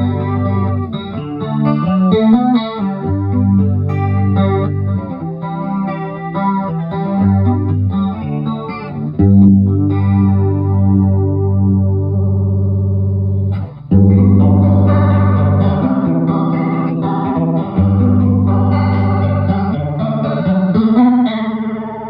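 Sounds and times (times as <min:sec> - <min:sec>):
electric guitar with flanger: 0:00.0 - 0:22.0.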